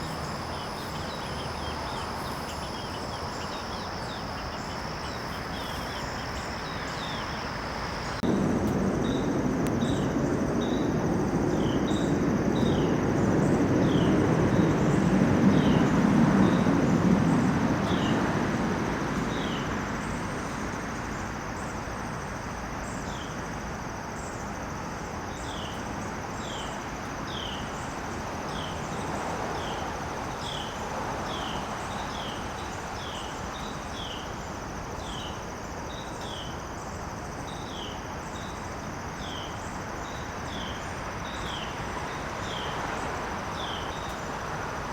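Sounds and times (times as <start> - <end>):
high insect drone: 0.0 - 44.9.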